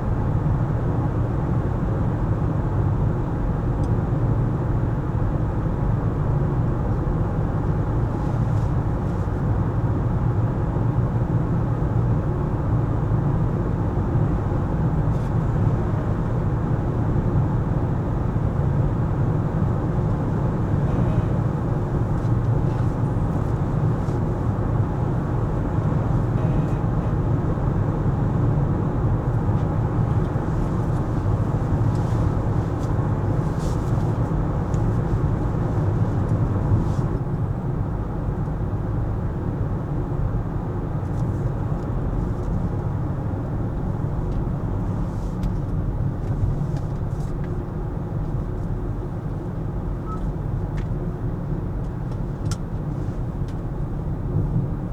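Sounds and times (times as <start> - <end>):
car road and engine noise: 0.0 - 54.9.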